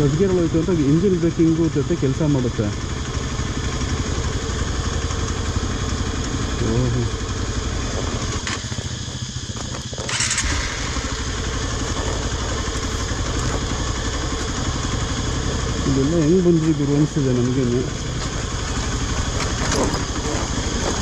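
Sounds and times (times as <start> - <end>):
motorcycle engine at low revs: 0.0 - 21.0.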